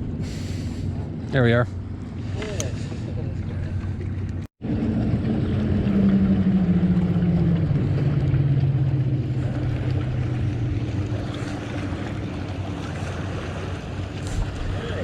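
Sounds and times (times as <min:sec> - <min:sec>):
motorboat engine drone: 0:00.0 - 0:15.0
water rushing: 0:02.0 - 0:15.0.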